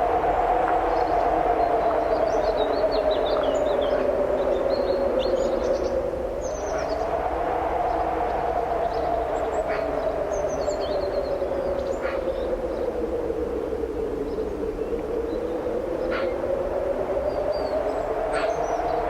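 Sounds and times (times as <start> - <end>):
strong wind howling: 0.0 - 19.0.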